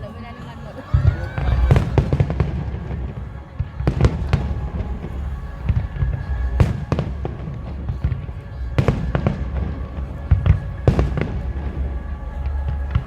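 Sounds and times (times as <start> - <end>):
distant explosions rumbling: 0.9 - 13.0.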